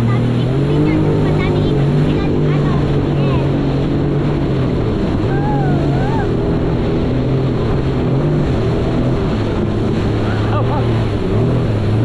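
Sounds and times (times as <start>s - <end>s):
jet ski engine running: 0.0s - 12.0s
rush of water and wind: 0.0s - 12.0s.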